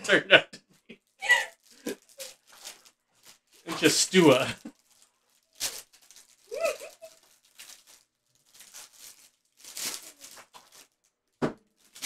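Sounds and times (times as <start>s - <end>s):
plastic foil wrappers crinkling: 1.0s - 12.0s.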